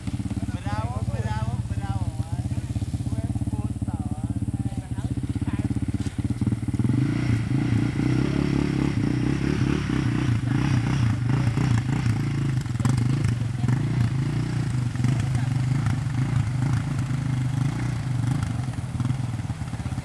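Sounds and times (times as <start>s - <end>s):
off-road engine running: 0.0s - 20.0s.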